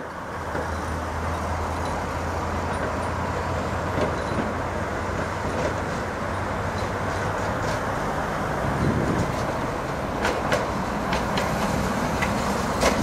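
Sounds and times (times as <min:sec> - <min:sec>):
road traffic engine drone: 0:00.0 - 0:13.0.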